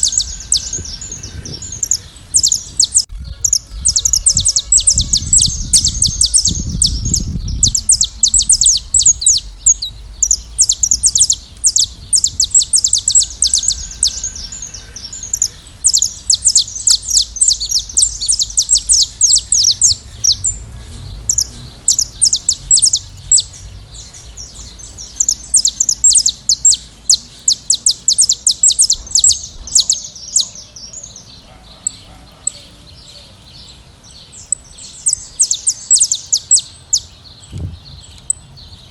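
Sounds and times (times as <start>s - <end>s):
flock of finches chirping: 0.0s - 38.9s.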